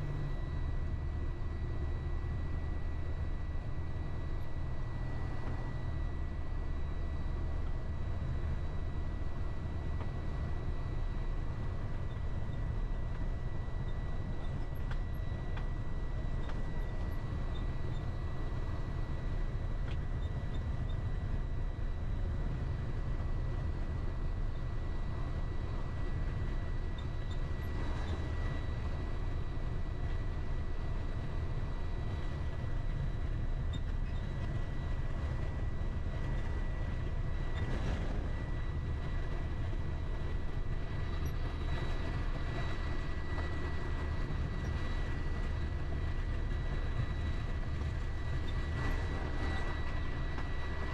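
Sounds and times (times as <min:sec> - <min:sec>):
engine and road noise rumble: 0:00.0 - 0:50.9.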